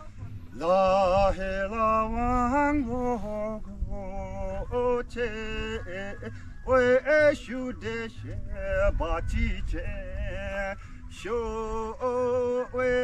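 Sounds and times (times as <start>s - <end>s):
steady low drone: 0.0s - 12.8s
man singing slow melody: 0.0s - 13.0s.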